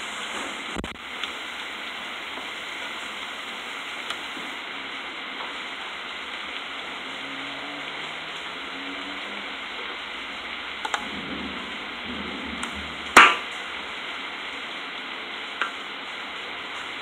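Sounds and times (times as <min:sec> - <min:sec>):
heavy rain behind window: 0:00.0 - 0:17.0.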